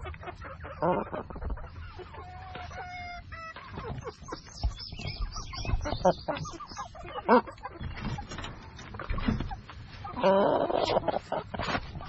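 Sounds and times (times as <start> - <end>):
chicken squawk: 0.0 - 8.3, 10.0 - 12.0
young chickens clucking: 0.0 - 12.0.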